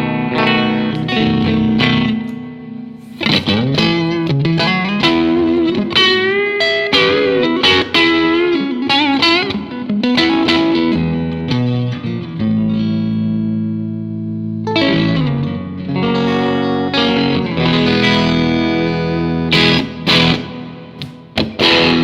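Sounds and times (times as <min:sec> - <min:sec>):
electric guitar: 0:00.0 - 0:22.0.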